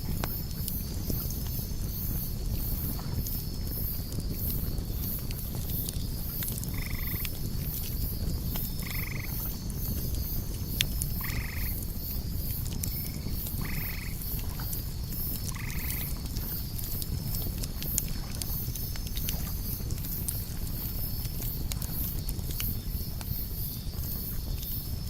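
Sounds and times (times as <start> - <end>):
campfire crackling: 0.0 - 25.0
crickets chirping: 0.0 - 25.0.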